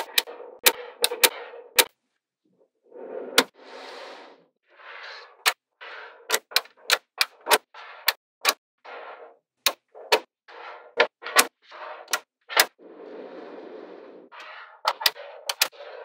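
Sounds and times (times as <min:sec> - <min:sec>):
balls sliding on tabletop: 0:00.0 - 0:16.0.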